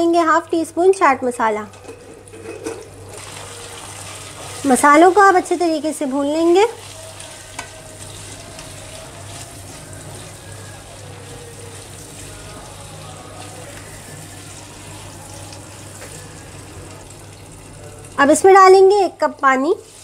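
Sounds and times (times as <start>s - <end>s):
potatoes sizzling in hot oil: 3.2s - 20.0s.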